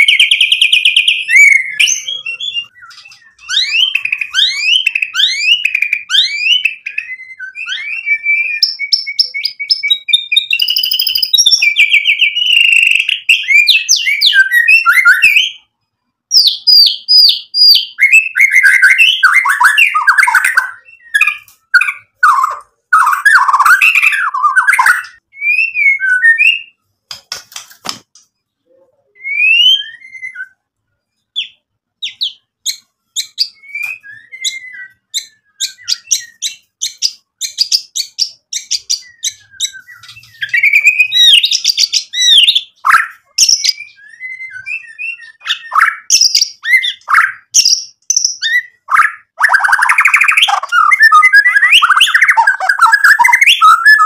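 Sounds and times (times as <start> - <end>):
bird singing whistled phrases: 0.0 - 15.7, 16.3 - 26.8, 28.8 - 30.6, 31.3 - 54.0.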